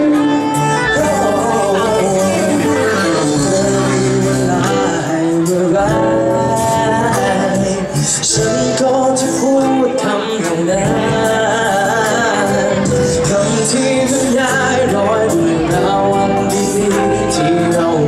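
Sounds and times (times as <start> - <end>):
live pop music with singer: 0.0 - 18.0.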